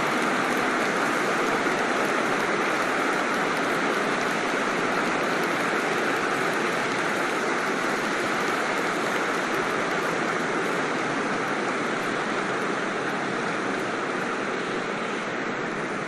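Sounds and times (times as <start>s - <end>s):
crowd applause: 0.0s - 14.9s.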